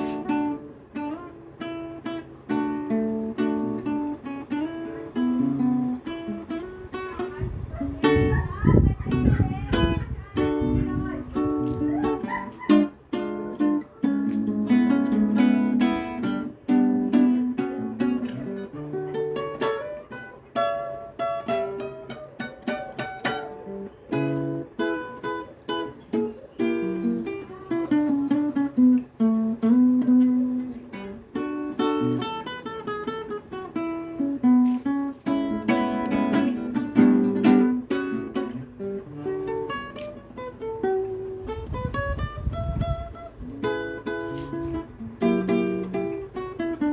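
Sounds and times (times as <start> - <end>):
solo guitar playing: 0.0 - 46.9.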